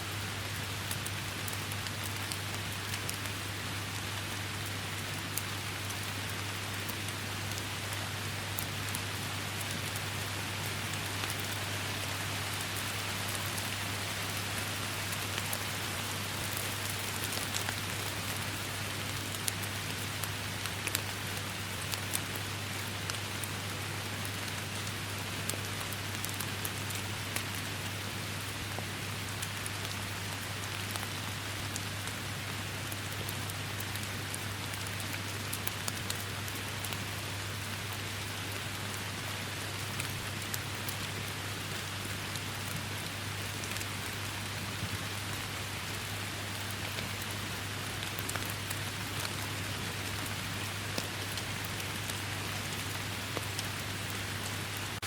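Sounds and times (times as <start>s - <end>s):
dense rain falling: 0.0s - 55.0s
raindrops ticking close by: 0.1s - 55.0s.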